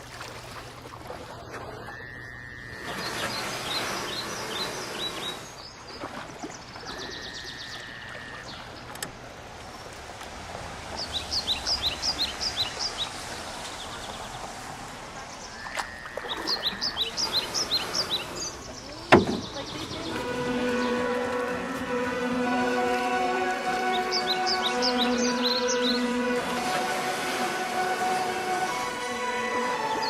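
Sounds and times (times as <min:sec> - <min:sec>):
steady outdoor hiss: 0:01.4 - 0:05.9, 0:06.6 - 0:30.0
songbird singing: 0:01.4 - 0:10.0, 0:10.9 - 0:30.0.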